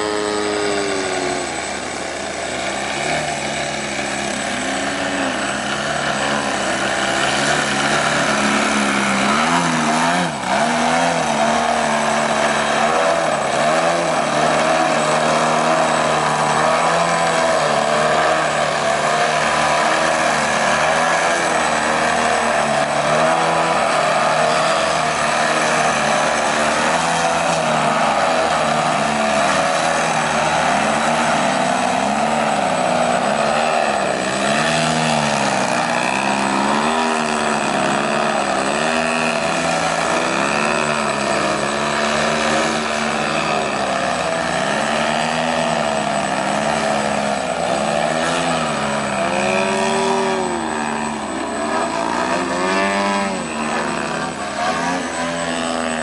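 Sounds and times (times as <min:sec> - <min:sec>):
model airplane engines and propellers: 0:00.0 - 0:56.0.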